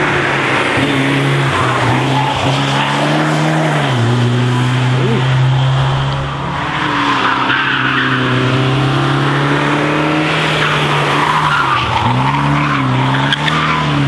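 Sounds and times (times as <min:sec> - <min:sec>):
race car engine: 0:00.0 - 0:14.0.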